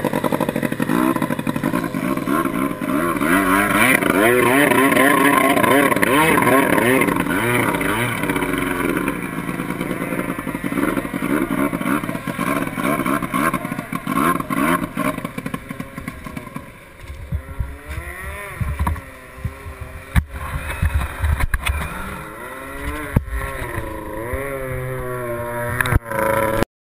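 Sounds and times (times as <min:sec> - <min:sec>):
outboard engine running: 0:00.0 - 0:26.6.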